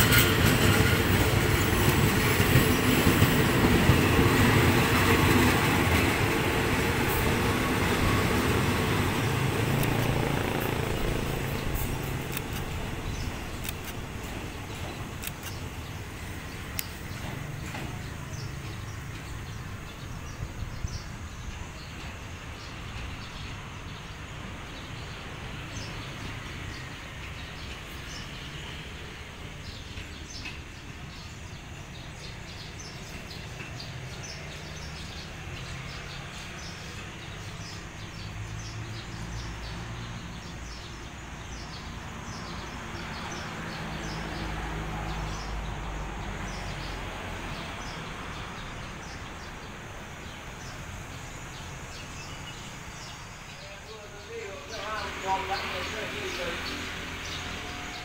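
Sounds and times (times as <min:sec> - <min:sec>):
diesel locomotive engine rumble: 0:00.0 - 0:38.0, 0:43.3 - 0:58.0
small birds chirping: 0:00.5 - 0:58.0.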